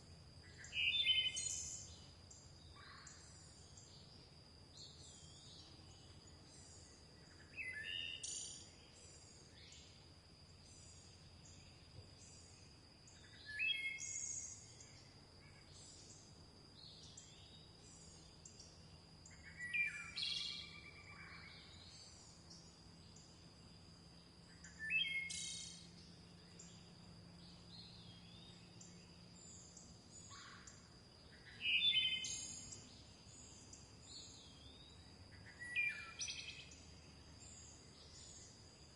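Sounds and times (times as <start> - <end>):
faint high bird chirps: 0.4 - 10.0, 10.6 - 38.9
bird singing loud song phrase: 0.4 - 38.9.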